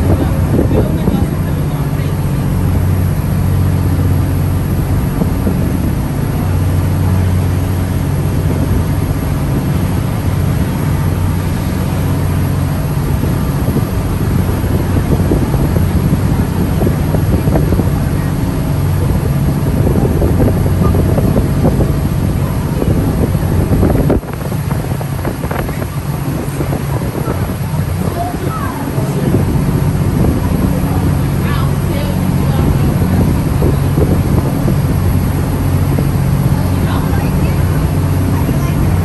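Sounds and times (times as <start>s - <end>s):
boat engine droning: 0.0s - 39.0s
water rushing past hull: 0.0s - 39.0s
wind buffeting microphone: 0.0s - 39.0s.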